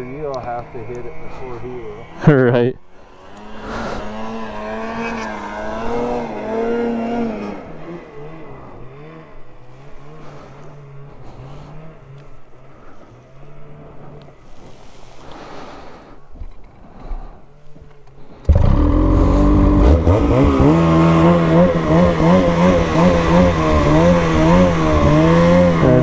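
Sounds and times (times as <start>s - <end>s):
snowmobile engine running: 0.0s - 14.8s, 18.4s - 26.0s.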